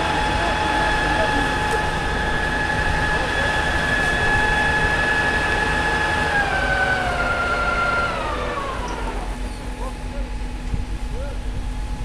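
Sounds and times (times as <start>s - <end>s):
fire engine siren whine: 0.0s - 10.6s
engine rumble: 0.0s - 12.0s.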